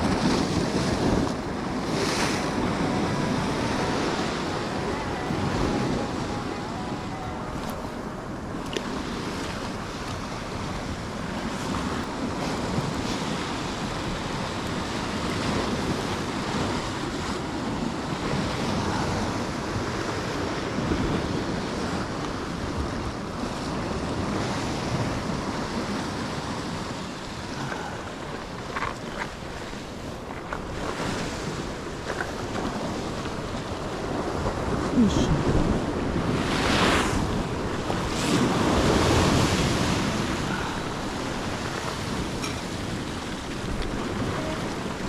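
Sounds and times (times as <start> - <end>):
surf washing against rocks: 0.0 - 45.0
wind buffeting microphone: 0.0 - 45.0.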